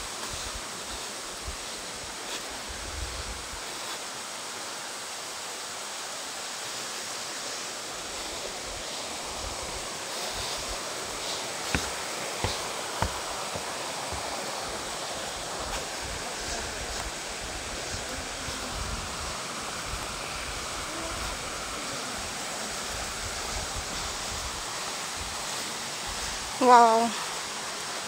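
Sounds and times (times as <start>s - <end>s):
flowing mountain water: 0.0s - 28.0s.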